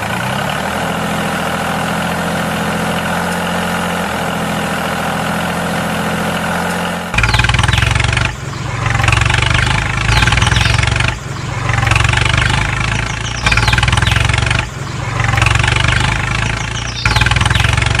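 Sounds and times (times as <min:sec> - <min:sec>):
tractor engine surging: 0:00.0 - 0:18.0.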